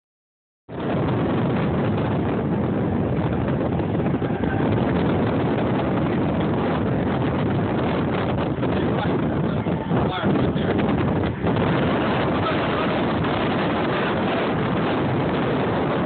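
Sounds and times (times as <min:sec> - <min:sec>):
boat engine running: 0:00.7 - 0:16.0
wind noise on microphone: 0:00.7 - 0:16.0
rushing water: 0:00.8 - 0:16.0.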